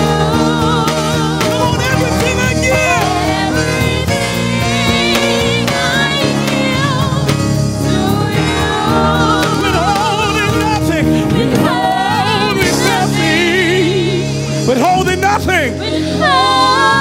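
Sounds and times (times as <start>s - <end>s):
person singing with vibrato: 0.0s - 14.7s
band sustained chords: 0.0s - 17.0s.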